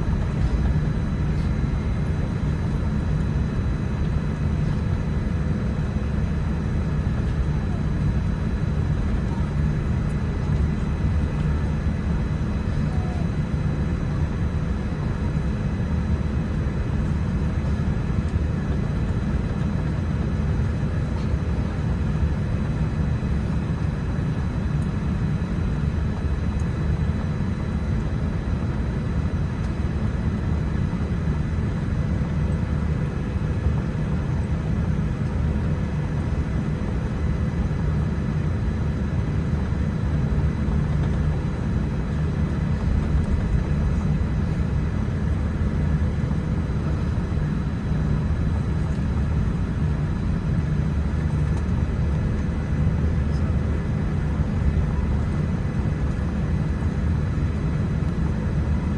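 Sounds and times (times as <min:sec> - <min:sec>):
airliner cabin rumble: 0:00.0 - 0:58.9
faint hum tones: 0:00.0 - 0:58.9.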